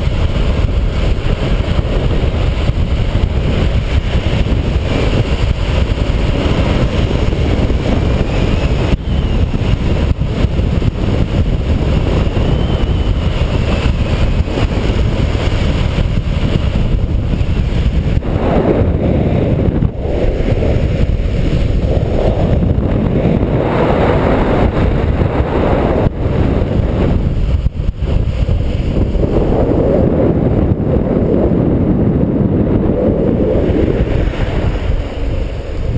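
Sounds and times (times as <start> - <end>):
longboard wheels rumbling on asphalt: 0.0 - 35.9
wind rushing over microphone: 0.0 - 35.9.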